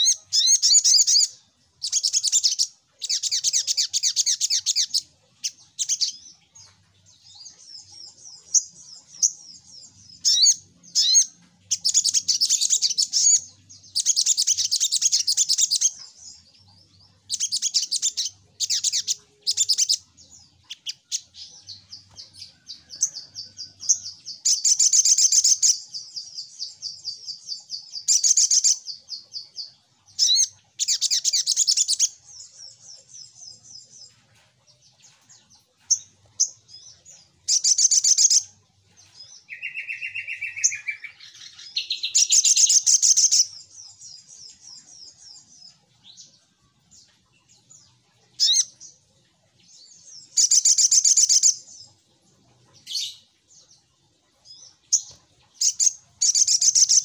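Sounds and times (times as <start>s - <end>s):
bird twittering: 0.0s - 34.1s, 35.1s - 46.3s, 48.3s - 48.9s, 54.4s - 57.0s
songbird chirping trills: 0.0s - 57.0s.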